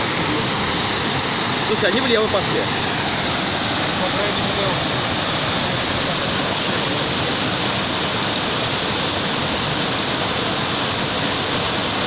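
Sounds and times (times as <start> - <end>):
rushing whitewater rapids: 0.0 - 12.0.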